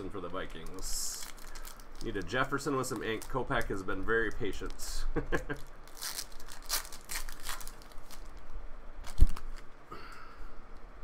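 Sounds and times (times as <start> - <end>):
foil wrapper tearing and crinkling: 0.0 - 9.7.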